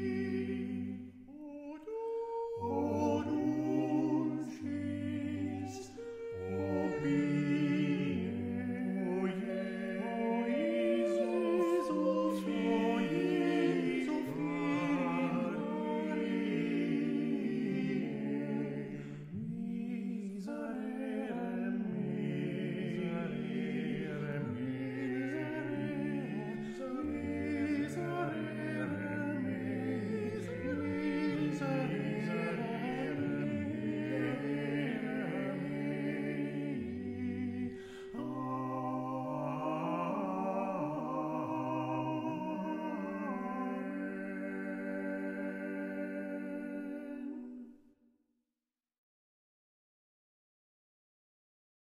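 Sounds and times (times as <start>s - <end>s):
unaccompanied choir singing: 0.0s - 47.8s.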